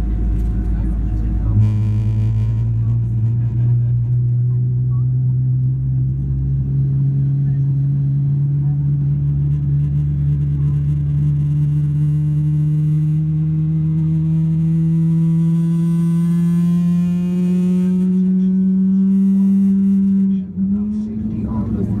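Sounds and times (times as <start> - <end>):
rising engine whine: 0.0 - 22.0.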